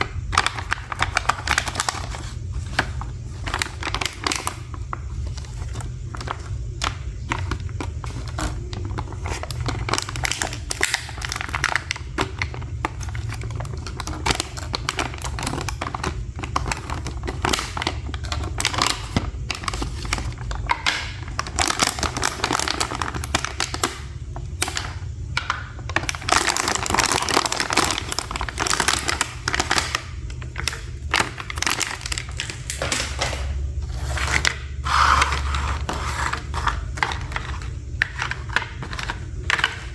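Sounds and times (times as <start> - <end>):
packaging crinkling and rustling: 0.0 - 39.9.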